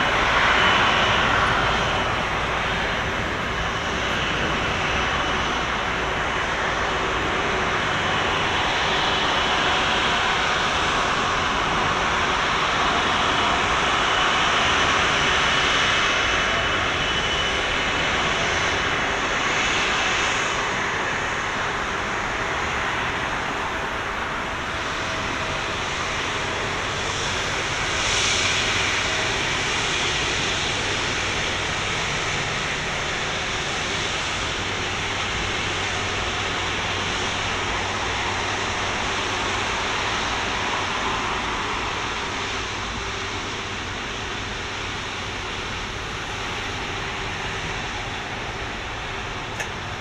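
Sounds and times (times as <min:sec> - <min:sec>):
faint high engine whine: 0:00.0 - 0:50.0
jet engines idling: 0:00.0 - 0:50.0.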